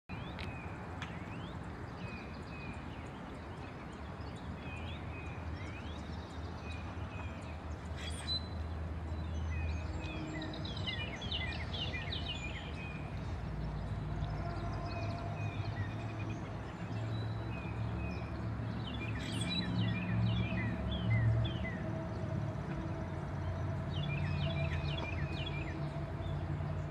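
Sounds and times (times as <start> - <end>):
songbirds chirping: 0.1 - 26.9.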